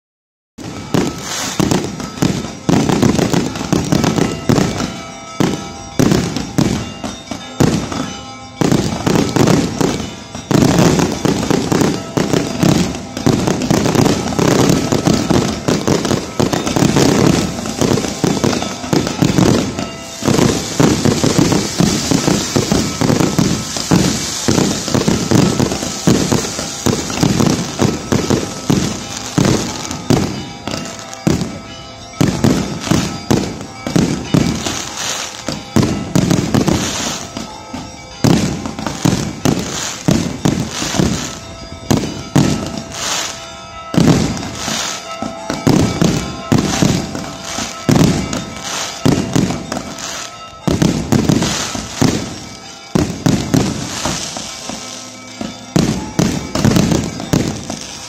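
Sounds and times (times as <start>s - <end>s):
fireworks bursts and crackling bangs: 0.6s - 58.0s.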